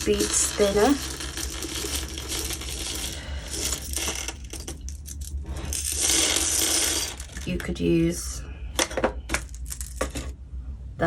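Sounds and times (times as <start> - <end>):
beads rattling: 0.0 - 8.1, 9.3 - 10.4.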